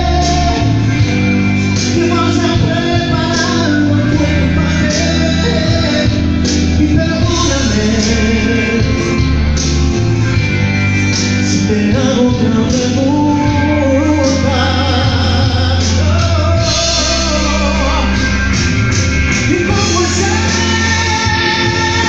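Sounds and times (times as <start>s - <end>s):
man singing into microphone: 0.0s - 9.4s, 11.4s - 18.6s, 19.3s - 22.0s
amplified backing music: 0.0s - 22.0s.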